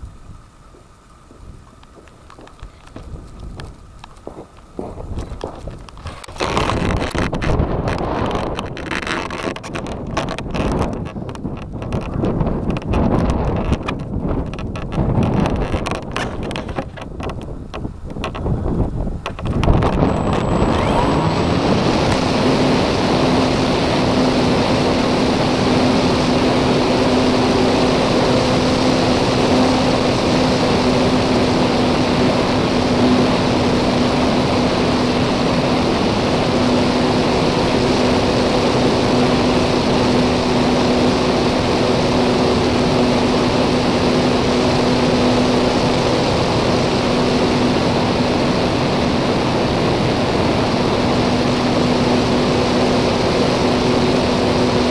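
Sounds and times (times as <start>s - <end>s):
electric motor and propeller humming: 0.0s - 54.9s
wind rushing over microphone: 0.0s - 54.9s.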